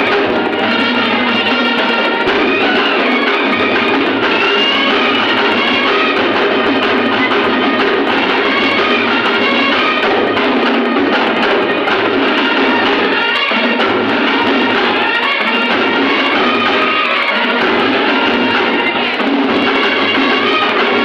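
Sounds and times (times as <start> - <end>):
brass melody: 0.0 - 21.0
drums: 0.0 - 21.0
live band music: 0.0 - 21.0.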